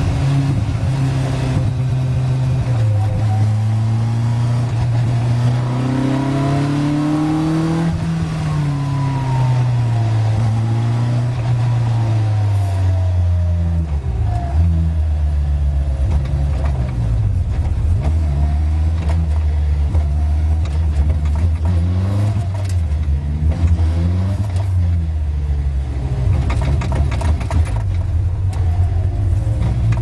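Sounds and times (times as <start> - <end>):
race car engine: 0.0 - 30.0.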